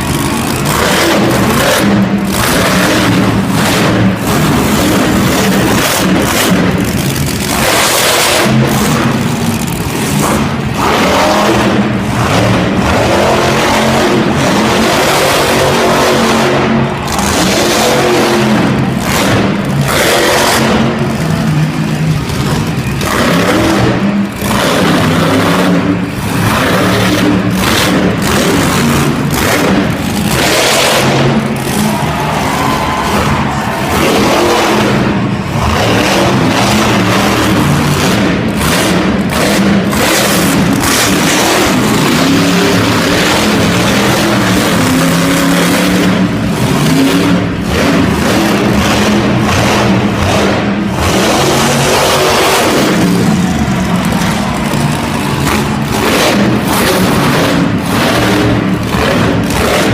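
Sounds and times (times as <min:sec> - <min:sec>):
quad bike engines revving: 0:00.0 - 0:59.9.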